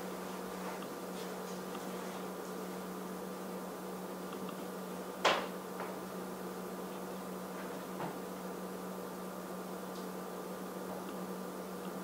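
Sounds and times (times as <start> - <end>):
room noise hum: 0.0 - 12.0.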